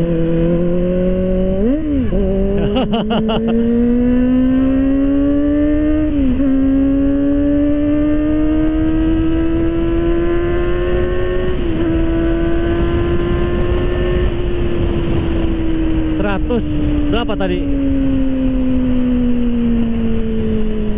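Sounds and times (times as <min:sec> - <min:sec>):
motorcycle engine at high revs: 0:00.0 - 0:20.9
wind rush: 0:03.6 - 0:20.9.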